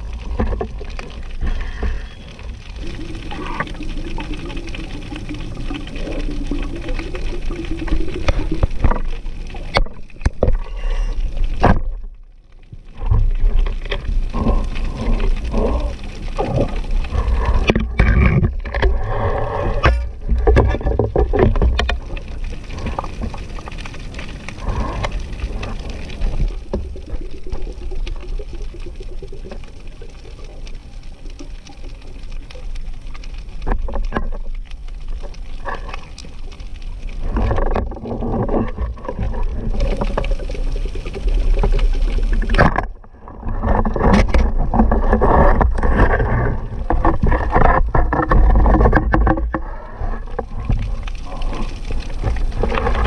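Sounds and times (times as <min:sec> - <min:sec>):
underwater rumble of moving water: 0:00.0 - 0:53.0.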